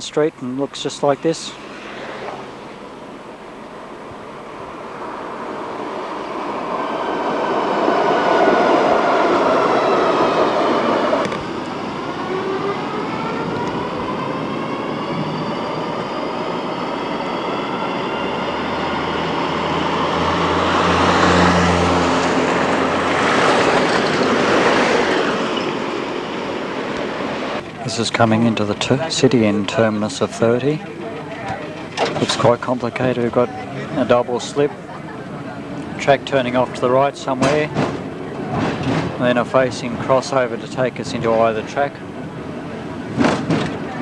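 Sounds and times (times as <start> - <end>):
wheels rumbling on rail: 1.1 - 44.0
tram traction motor whine: 1.4 - 44.0.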